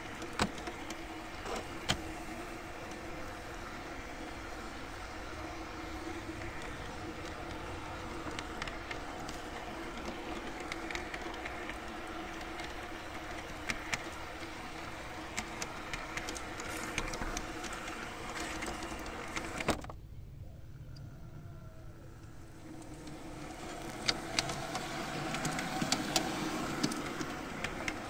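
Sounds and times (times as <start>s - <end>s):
model train running hum: 0.0s - 19.9s, 20.6s - 28.0s
wheels clicking over rail joints: 0.0s - 19.9s, 22.2s - 28.0s.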